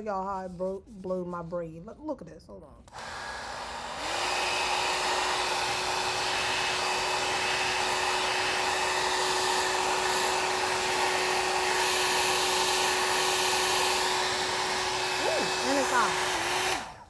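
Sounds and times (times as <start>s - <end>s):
hair dryer running: 2.9s - 17.0s.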